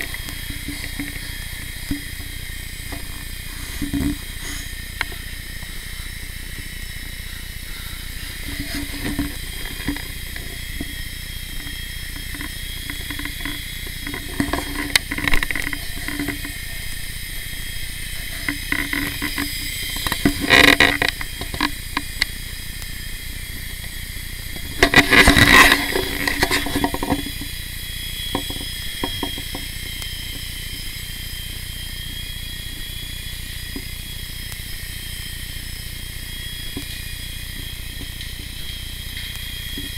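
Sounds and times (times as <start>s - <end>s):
noisy burst: 0.0s - 39.9s
toy helicopter rotor whine: 0.0s - 39.9s.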